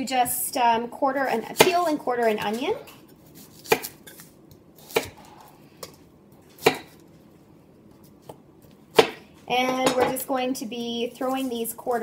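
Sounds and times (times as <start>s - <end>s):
knife chopping onion on plastic mat: 1.4s - 7.1s, 7.9s - 12.0s.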